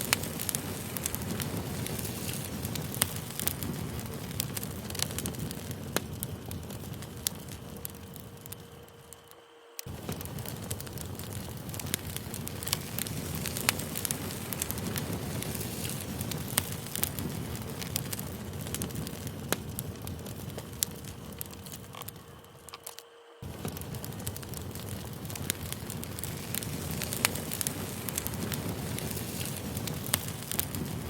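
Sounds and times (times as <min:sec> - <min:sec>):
rush of flame: 0:00.0 - 0:09.2, 0:09.8 - 0:22.8, 0:23.4 - 0:31.0
burning wood crackling: 0:00.0 - 0:31.0.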